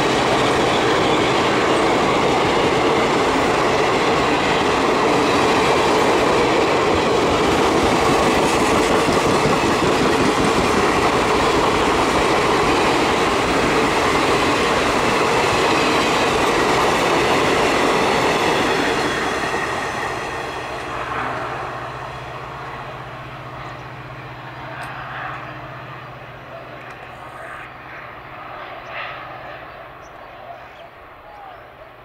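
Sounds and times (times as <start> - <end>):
train wheels on rails passing: 0.0 - 30.4.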